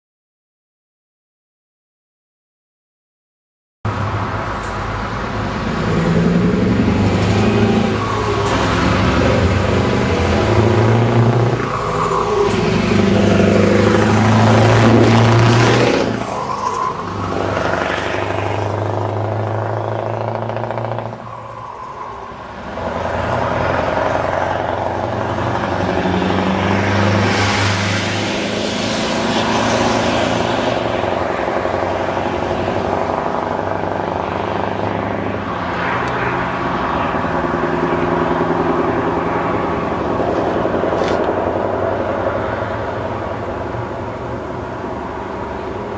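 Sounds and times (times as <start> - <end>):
diesel truck driving past: 3.9 - 45.9.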